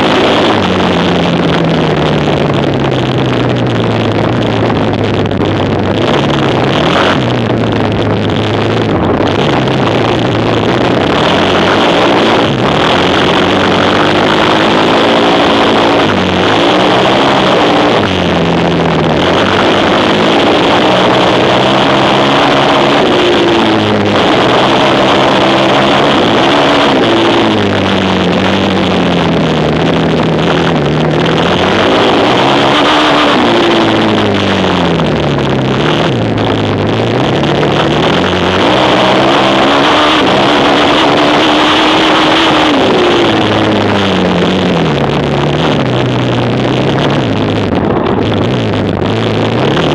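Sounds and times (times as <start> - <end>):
loud rushing noise: 0.0 - 49.9
racing quad engine revving: 0.0 - 49.9.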